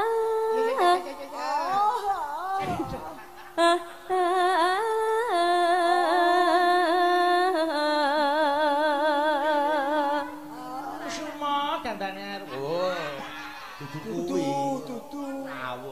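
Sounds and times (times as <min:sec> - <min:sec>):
woman singing with vibrato: 0:00.0 - 0:15.5.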